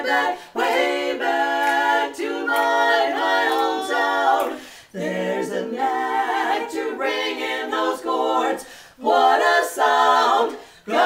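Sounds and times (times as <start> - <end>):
women singing a cappella harmony: 0.0 - 11.0.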